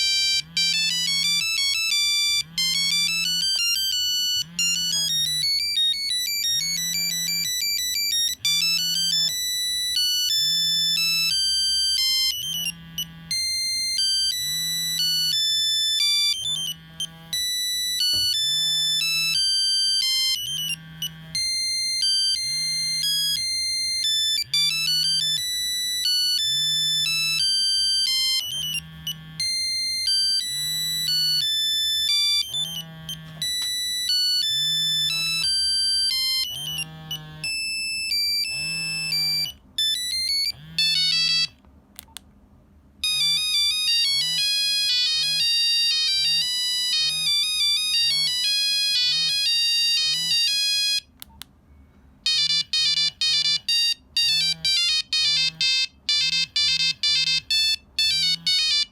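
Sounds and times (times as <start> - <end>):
monophonic phone ringtone: 0.0 - 41.6, 43.0 - 51.2, 52.2 - 58.9.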